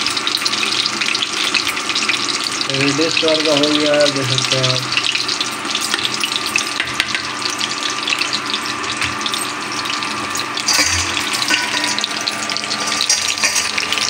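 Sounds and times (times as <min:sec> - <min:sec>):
crackling sizzle of frying: 0:00.0 - 0:14.0.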